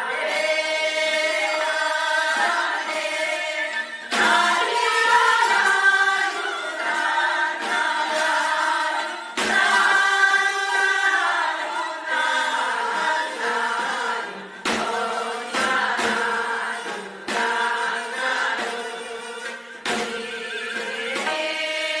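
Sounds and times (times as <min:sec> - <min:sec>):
sharp drum strokes: 0:00.0 - 0:22.0
women singing in unison: 0:00.0 - 0:22.0.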